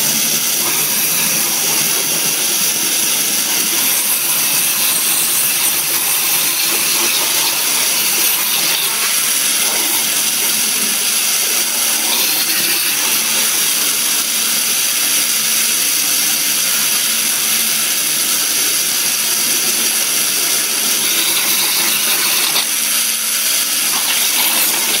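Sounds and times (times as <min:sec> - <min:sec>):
water jet cutter hissing: 0:00.0 - 0:25.0.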